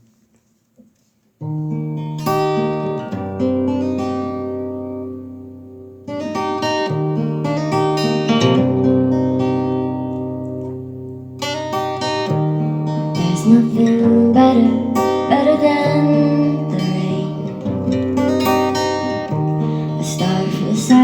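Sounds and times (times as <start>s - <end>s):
acoustic guitar chords: 1.4s - 21.0s.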